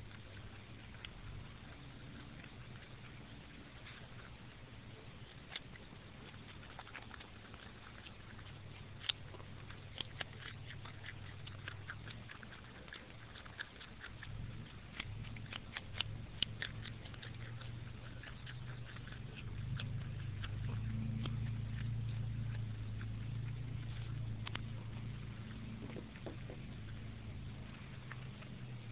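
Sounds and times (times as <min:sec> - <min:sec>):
steady low hum: 0:00.0 - 0:28.9
woodchuck crunching carrot: 0:00.0 - 0:28.9.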